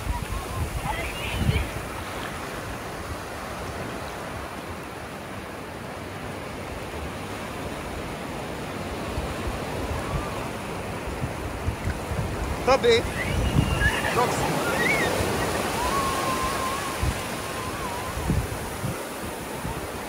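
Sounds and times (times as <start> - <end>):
ocean surf on sandy beach: 0.0 - 20.0.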